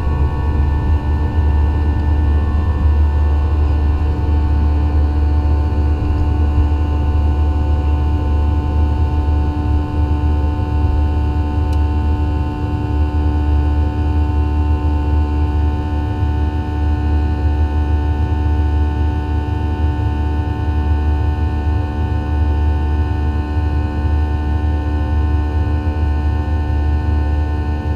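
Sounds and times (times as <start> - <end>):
jet engines deep rumble and whine: 0.0 - 27.9.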